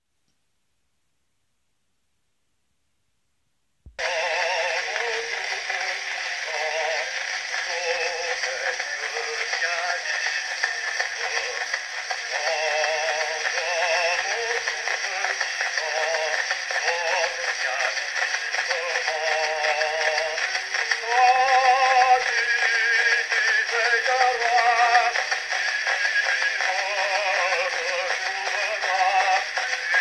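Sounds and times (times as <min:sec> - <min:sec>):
man singing with vibrato: 0:04.0 - 0:30.0
surface hiss: 0:04.0 - 0:30.0.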